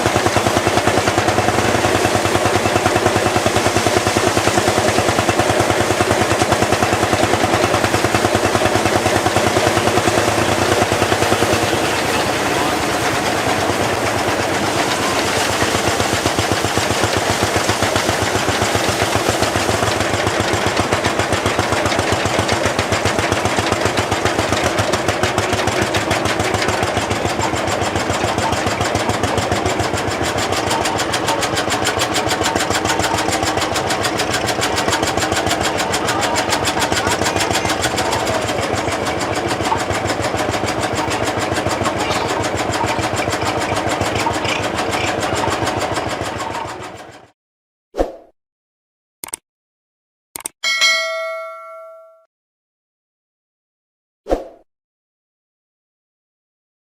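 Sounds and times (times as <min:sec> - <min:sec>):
tractor engine beating rapidly: 0:00.0 - 0:47.4.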